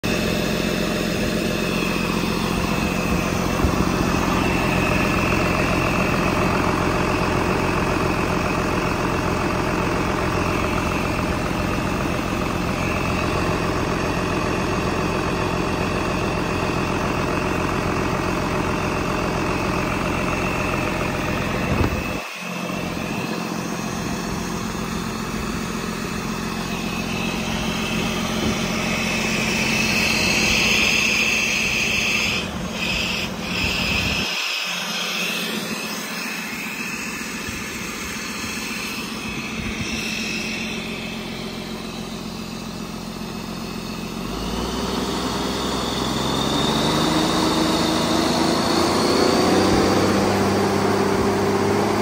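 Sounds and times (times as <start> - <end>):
thin high whine: 0.0 - 44.6
diesel engine idling: 0.0 - 52.0.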